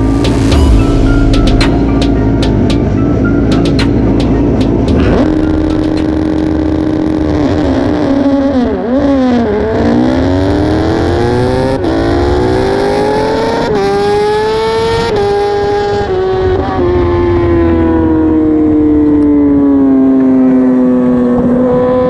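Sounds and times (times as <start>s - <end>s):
motorcycle engine revving: 3.8s - 22.0s.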